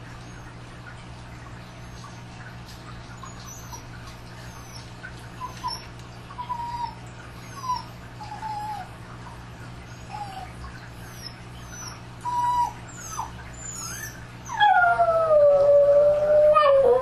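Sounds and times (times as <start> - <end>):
dog whining: 3.2 - 17.0.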